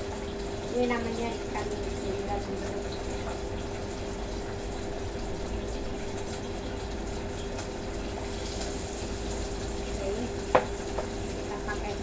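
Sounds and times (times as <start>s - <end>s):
range hood fan whooshing: 0.0s - 12.0s.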